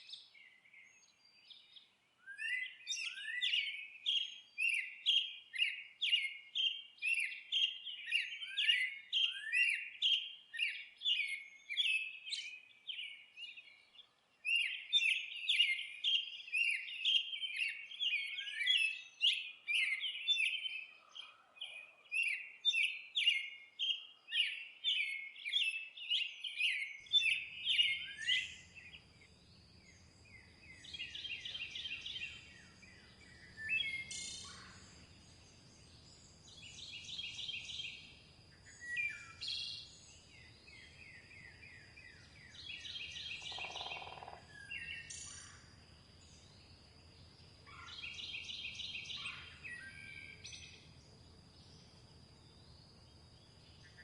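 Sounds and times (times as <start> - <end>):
songbird chirping: 0.0 - 54.0.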